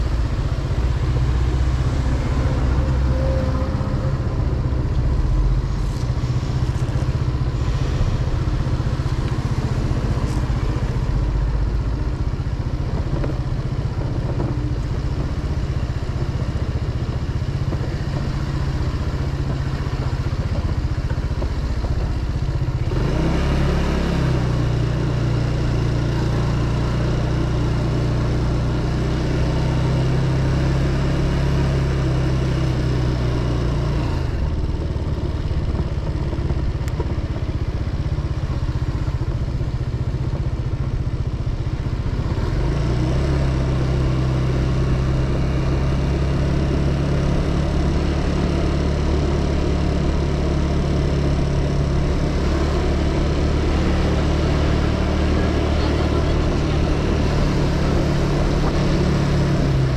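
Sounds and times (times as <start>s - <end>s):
motorcycle engine running: 0.0s - 59.9s
road noise: 0.0s - 59.9s.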